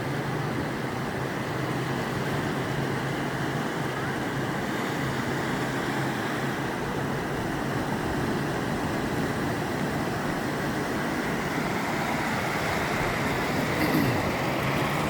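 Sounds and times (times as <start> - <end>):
sea water rushing: 0.0 - 15.0.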